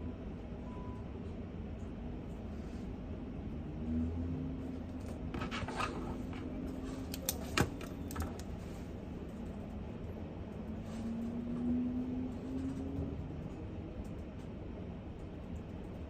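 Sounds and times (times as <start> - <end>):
low room tone rumble: 0.0 - 16.0.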